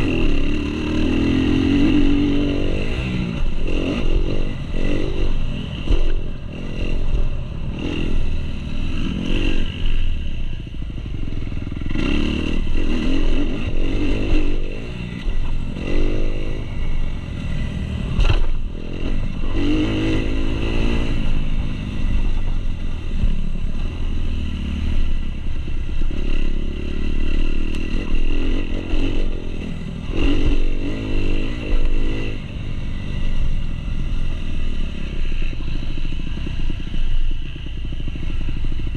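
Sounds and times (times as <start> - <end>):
motocross bike engine revving: 0.0 - 10.3, 11.0 - 38.9.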